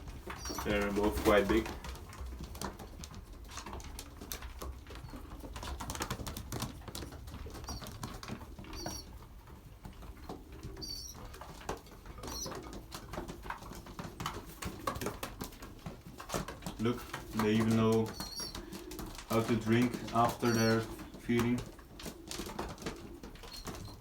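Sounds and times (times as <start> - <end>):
pigeons pecking grain: 0.0 - 24.0
young birds peeping: 0.0 - 24.0.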